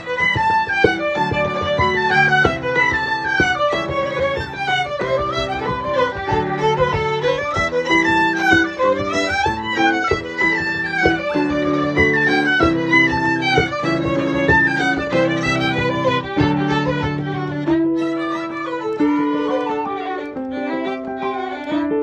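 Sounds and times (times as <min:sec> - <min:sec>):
frame drum beating: 0:00.0 - 0:18.5
fiddles playing: 0:00.0 - 0:22.0
piano chords: 0:00.0 - 0:22.0.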